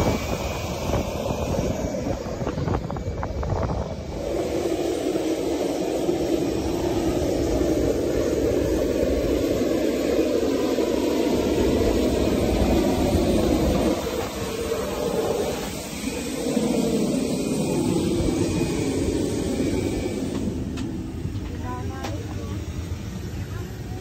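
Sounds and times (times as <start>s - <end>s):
jet aircraft roar: 0.0s - 24.0s.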